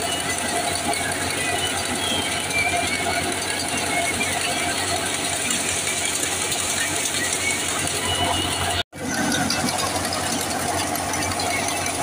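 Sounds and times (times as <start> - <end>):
thresher running: 0.0 - 12.0
tractor engine: 0.0 - 12.0.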